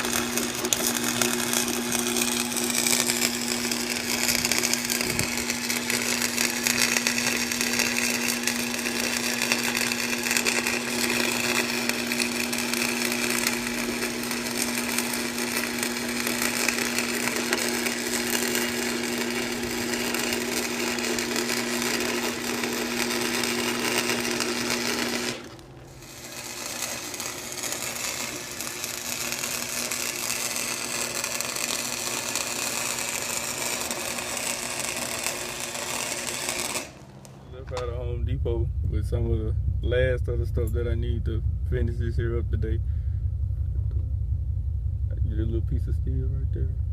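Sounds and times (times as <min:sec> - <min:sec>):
machine buzzing hum: 0:00.0 - 0:46.9.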